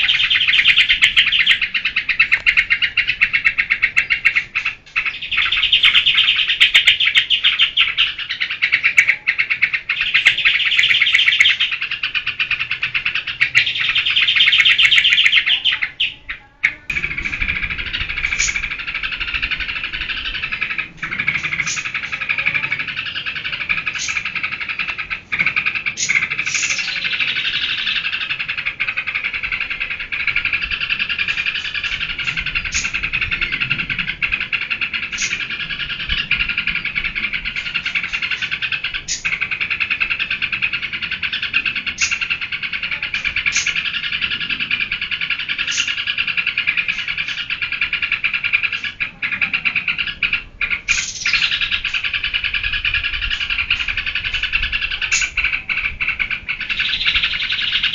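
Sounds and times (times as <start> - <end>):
bird chattering song: 0.0 - 57.9.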